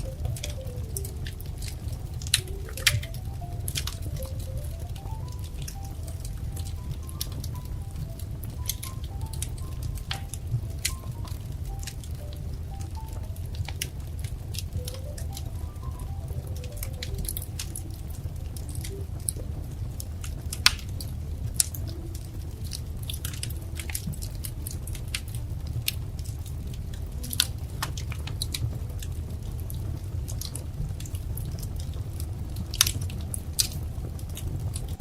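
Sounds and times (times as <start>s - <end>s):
low steady rumble: 0.0s - 35.0s
wood fire crackling: 0.0s - 35.0s.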